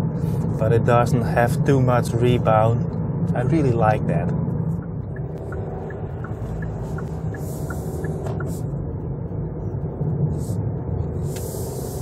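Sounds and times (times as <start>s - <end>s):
tyres rumbling on road: 0.0s - 12.0s.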